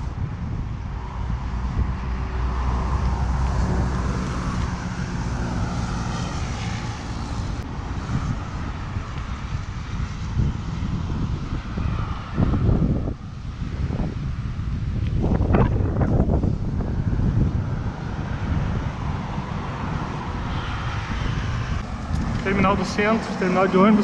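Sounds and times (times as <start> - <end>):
heavy vehicle engine hum: 0.0 - 24.0
road traffic passing: 0.0 - 24.0
wind rumble on microphone: 0.0 - 24.0.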